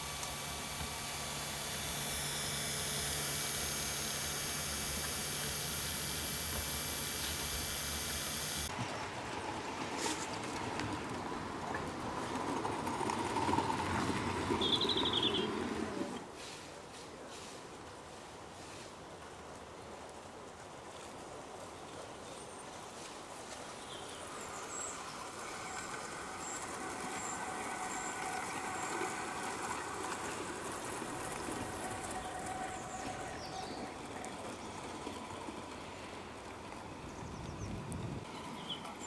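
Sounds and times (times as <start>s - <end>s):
model train wheels rumbling on rails: 0.0s - 16.3s, 23.4s - 39.0s.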